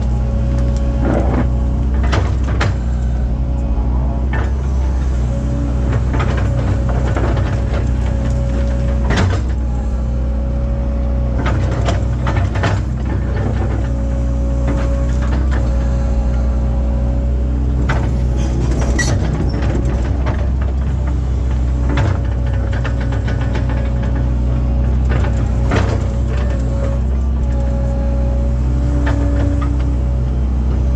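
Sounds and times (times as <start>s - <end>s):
excavator diesel engine: 0.0s - 30.9s
excavator knocks and clunks: 0.0s - 30.9s.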